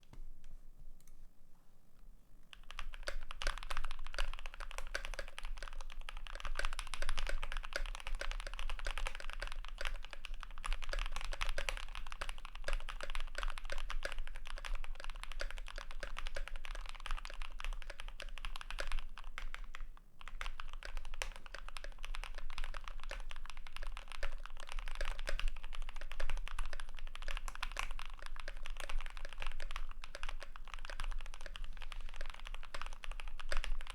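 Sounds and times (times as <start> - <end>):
mechanical keyboard typing: 2.5 - 33.9.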